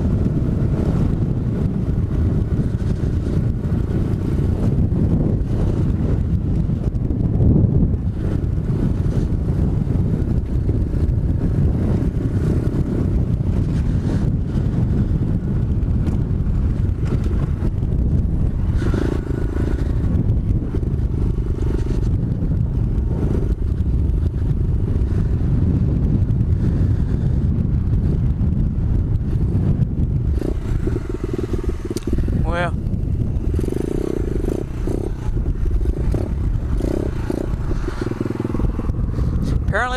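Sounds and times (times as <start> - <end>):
motorbike engine running: 0.0 - 39.9
wind buffeting microphone: 0.0 - 39.9.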